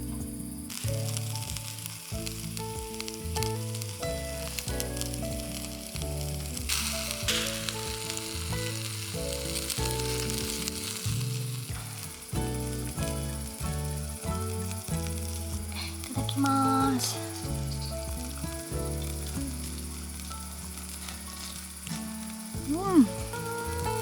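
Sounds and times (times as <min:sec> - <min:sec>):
background music: 0:00.0 - 0:24.0
meat sizzling on a grill: 0:00.0 - 0:24.0.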